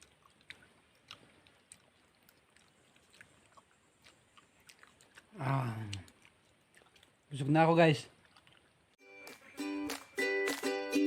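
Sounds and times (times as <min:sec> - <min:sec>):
faint chewing clicks: 0:00.0 - 0:09.0.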